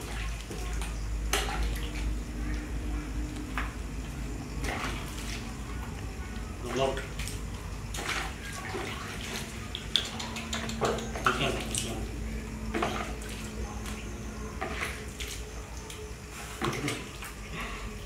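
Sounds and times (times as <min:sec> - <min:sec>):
water slaps and drips: 0:00.0 - 0:02.7, 0:03.3 - 0:06.0, 0:06.6 - 0:17.4.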